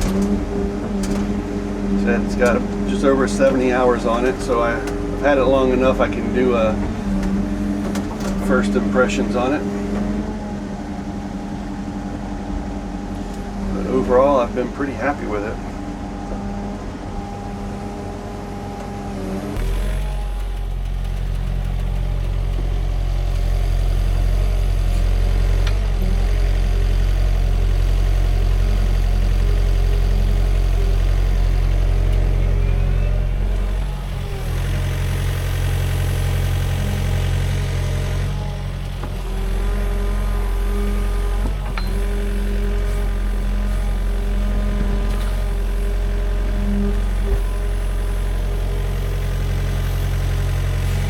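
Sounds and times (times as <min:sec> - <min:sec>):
excavator diesel engine running: 0:00.0 - 0:51.0
hydraulic whine: 0:00.0 - 0:51.0.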